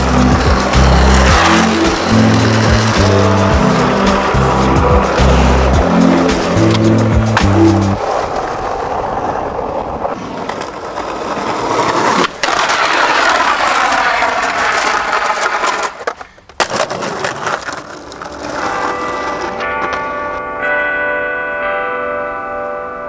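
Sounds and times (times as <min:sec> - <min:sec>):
skateboard clacks: 0:00.0 - 0:20.4
skateboard scraping on concrete: 0:00.0 - 0:20.4
skateboard wheels rolling on pavement: 0:00.0 - 0:20.8.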